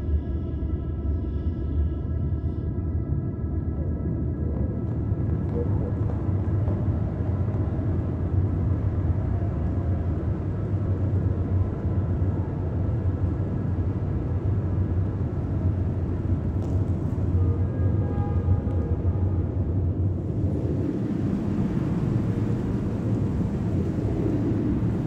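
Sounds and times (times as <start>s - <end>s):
low rumble: 0.0s - 17.7s, 18.6s - 25.0s.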